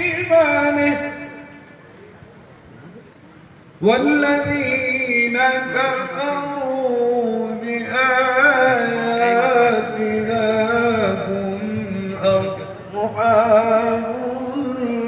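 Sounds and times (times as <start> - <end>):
man chanting melodically: 0.0 - 1.6, 3.8 - 15.0.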